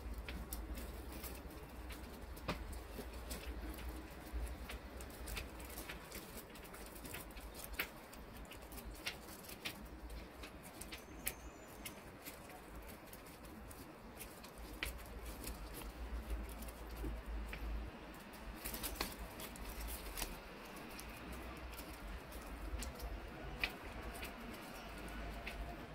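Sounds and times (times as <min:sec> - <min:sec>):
paper rustling and crinkling: 0:00.0 - 0:25.9
small clicks and taps: 0:00.0 - 0:25.9.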